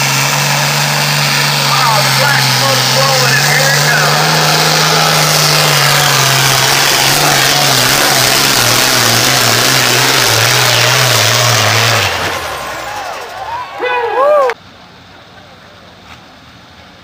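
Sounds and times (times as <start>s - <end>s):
diesel engine at high revs: 0.0s - 14.5s.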